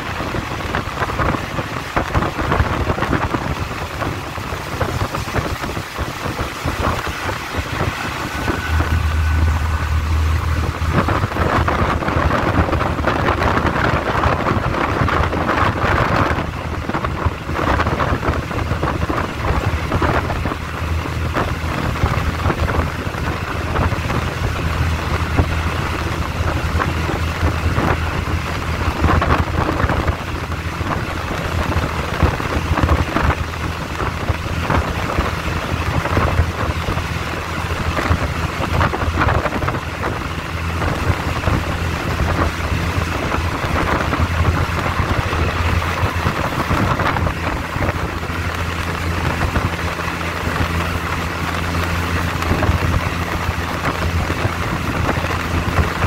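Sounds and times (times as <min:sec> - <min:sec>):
train wheels rumbling on rails: 0:00.0 - 0:56.0
wind buffeting microphone: 0:00.0 - 0:56.0.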